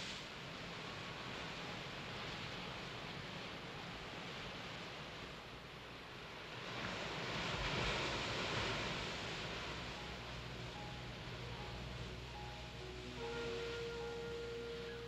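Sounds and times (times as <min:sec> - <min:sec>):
surf: 0:00.0 - 0:15.0
wind: 0:00.0 - 0:15.0.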